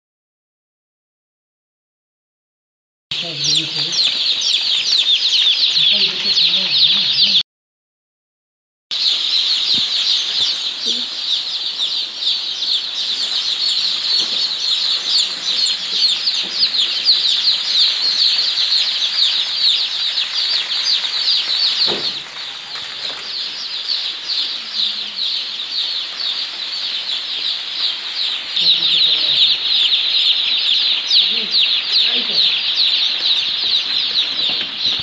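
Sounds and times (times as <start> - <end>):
chicks peeping: 3.1 - 7.4, 8.9 - 35.0.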